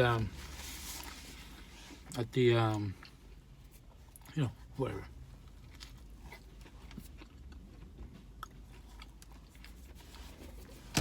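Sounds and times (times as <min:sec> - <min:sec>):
person chewing pizza: 0:01.0 - 0:10.9.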